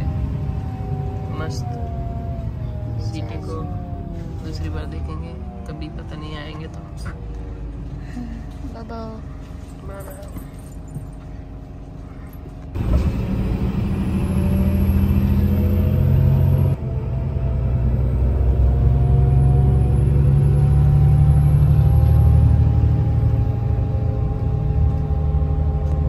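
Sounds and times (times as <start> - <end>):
bus engine accelerating: 0.0 - 26.0.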